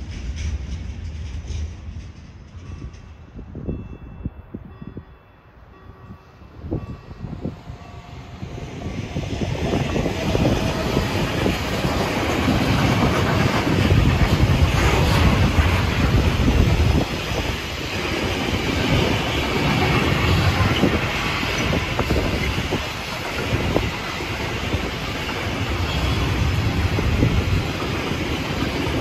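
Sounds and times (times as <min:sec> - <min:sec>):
train passing: 0:00.0 - 0:29.0
wheels rumbling on rails: 0:00.0 - 0:29.0.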